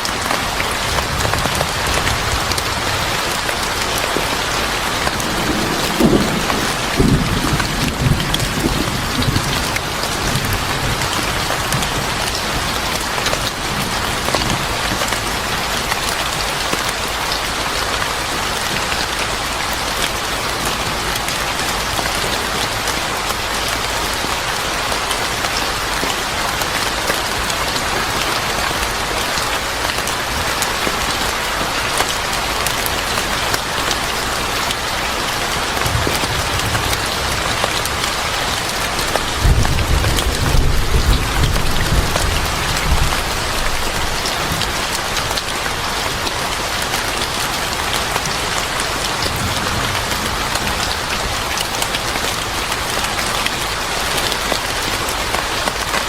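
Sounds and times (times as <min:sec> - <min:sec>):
rain drops tapping: 0:00.0 - 0:56.0.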